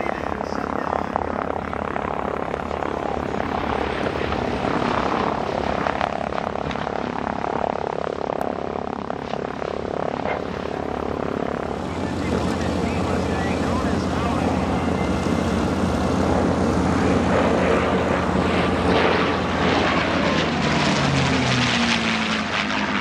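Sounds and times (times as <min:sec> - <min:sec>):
radial engines and propellers running: 0:00.0 - 0:23.0.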